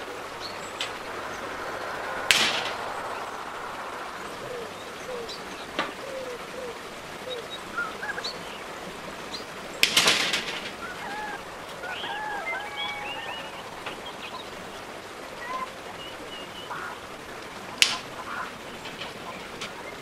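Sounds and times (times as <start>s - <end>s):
birds calling and chirping: 0.0s - 20.0s
faint steady hiss: 0.0s - 20.0s.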